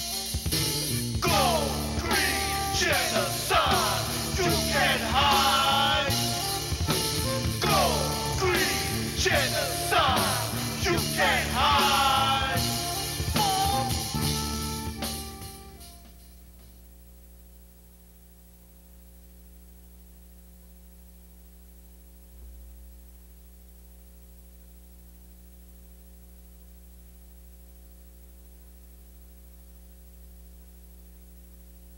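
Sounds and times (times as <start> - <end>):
mains hum with faint hiss: 0.0 - 31.9.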